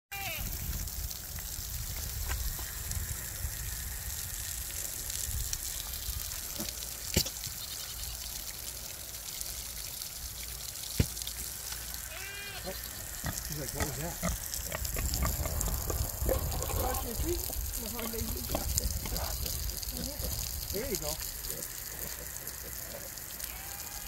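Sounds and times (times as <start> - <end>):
pig rooting in muddy water: 0.6 - 24.0
water sloshing and trickling: 0.6 - 24.0.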